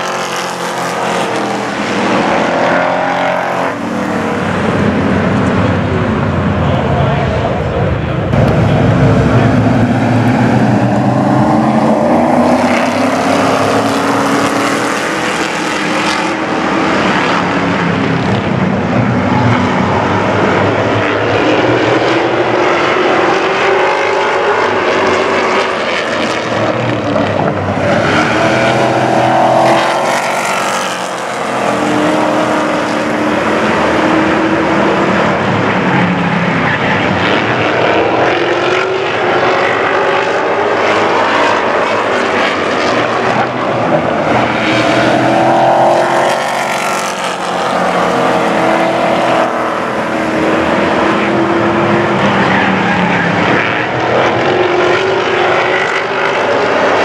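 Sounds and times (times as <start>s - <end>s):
race truck engines passing: 0.0s - 57.0s.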